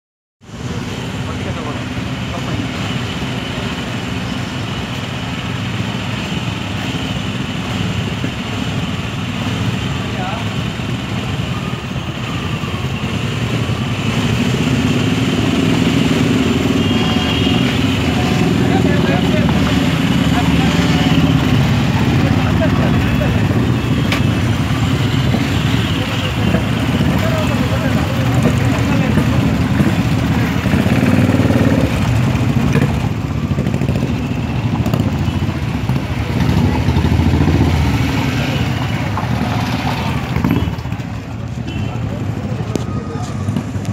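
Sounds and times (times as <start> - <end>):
motorcycles pulling away: 1.1 - 41.5.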